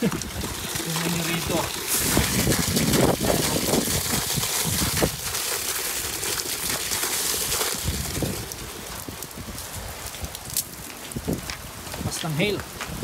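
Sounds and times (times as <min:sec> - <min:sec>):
hailstones crackling: 0:00.0 - 0:13.0
wind on microphone: 0:00.0 - 0:13.0.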